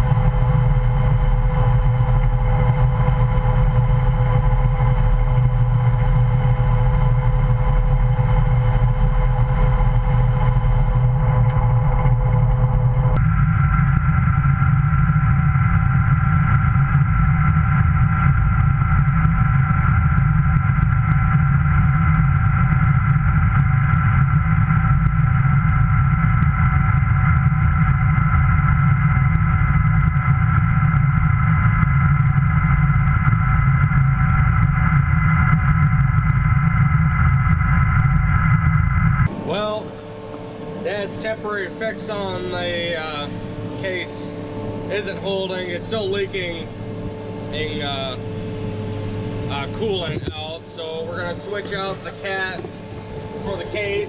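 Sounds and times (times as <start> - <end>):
farm machinery engine drone: 0.0 - 54.0
steady machine whine: 0.0 - 54.0.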